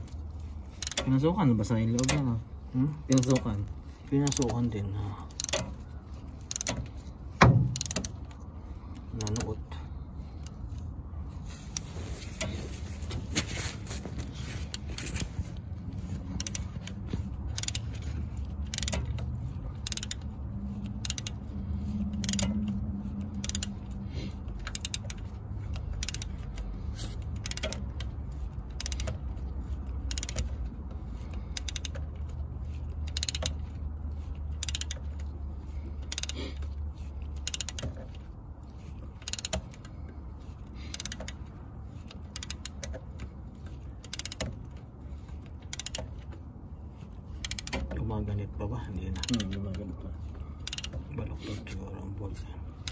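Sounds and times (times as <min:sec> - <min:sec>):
ratchet wrench clicking: 0:00.0 - 0:09.7, 0:16.0 - 0:46.4, 0:47.0 - 0:52.9
steady low hum: 0:00.0 - 0:52.9.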